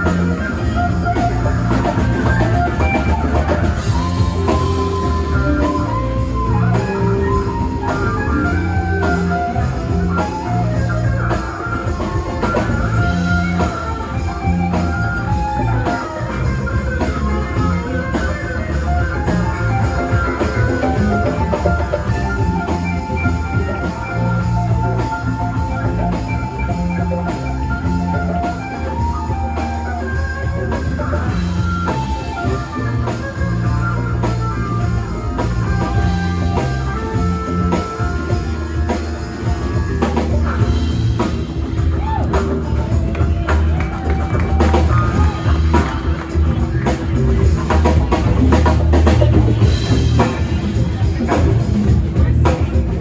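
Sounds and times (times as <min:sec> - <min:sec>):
bass guitar: 0:00.0 - 0:53.0
drum kit beat: 0:00.0 - 0:53.0
electric guitar: 0:00.0 - 0:53.0.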